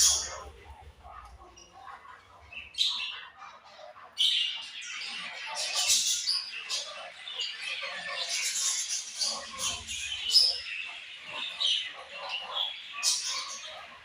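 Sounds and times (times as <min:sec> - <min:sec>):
budgerigars chirping and chattering: 0:00.0 - 0:14.0.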